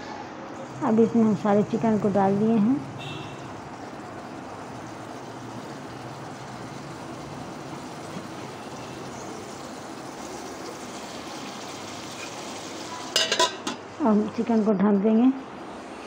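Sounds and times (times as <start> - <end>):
chicken sizzling in hot oil: 0.7 - 13.8.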